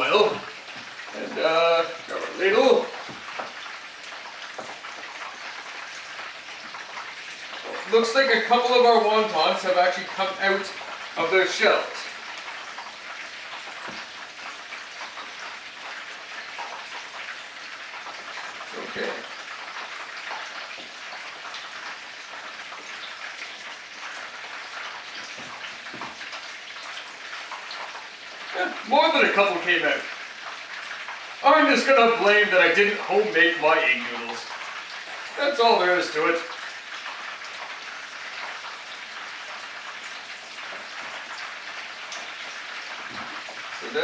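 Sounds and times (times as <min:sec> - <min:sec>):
chicken frying in hot oil: 0:00.0 - 0:44.0.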